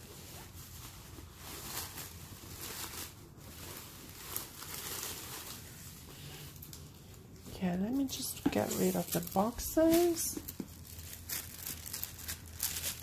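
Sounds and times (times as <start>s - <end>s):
fabric bag rustling: 0.0s - 13.0s.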